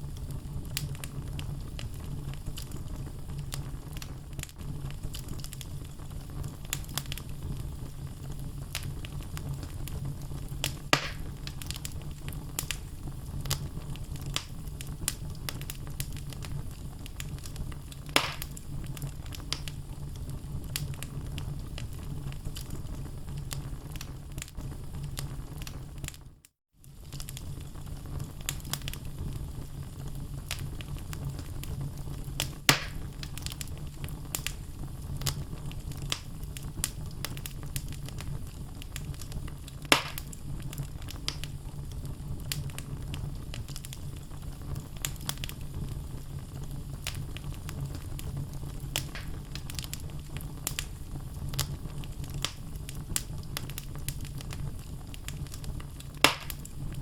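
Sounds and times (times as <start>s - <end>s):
fire crackles and pops: 0.0s - 57.0s
wood fire rumbling: 0.0s - 57.0s.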